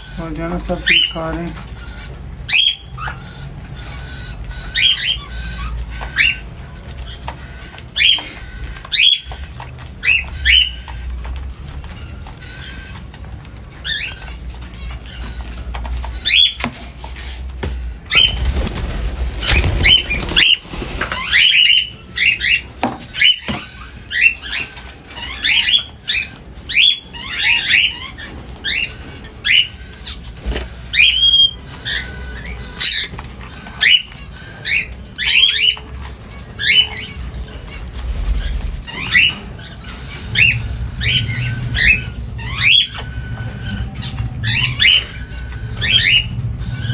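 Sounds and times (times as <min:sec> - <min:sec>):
cockatiels chirping: 0:00.0 - 0:46.9
wings flapping: 0:00.1 - 0:46.9.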